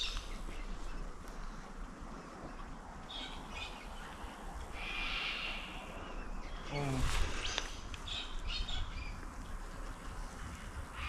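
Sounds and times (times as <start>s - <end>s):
birds calling: 0.0s - 11.0s
riverside ambience: 0.0s - 11.0s.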